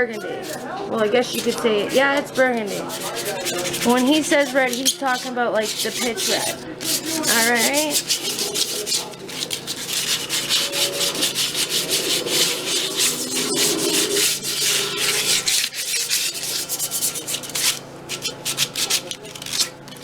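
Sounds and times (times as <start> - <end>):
sandpaper scrubbing metal rim: 0.4 - 20.0.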